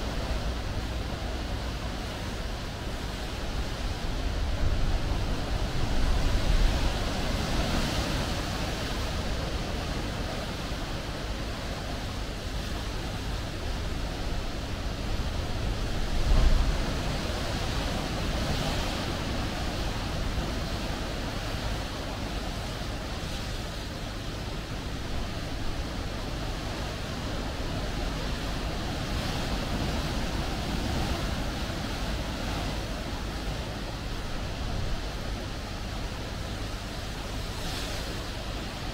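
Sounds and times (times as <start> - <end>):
sea waves washing in: 0.0 - 38.9
wind: 0.0 - 38.9.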